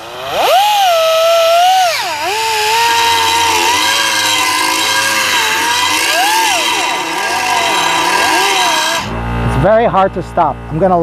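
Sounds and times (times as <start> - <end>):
air die grinder whining: 0.0 - 9.8.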